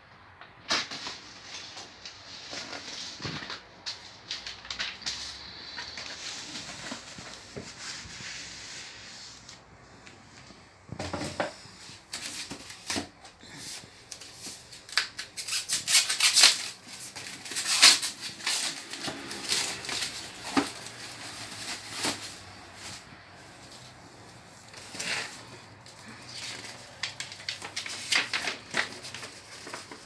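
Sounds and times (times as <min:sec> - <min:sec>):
foam wrap crinkling and rustling: 0:00.7 - 0:30.0.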